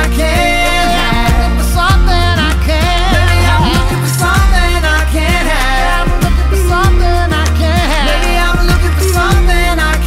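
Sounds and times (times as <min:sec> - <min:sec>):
background pop music: 0:00.0 - 0:10.0.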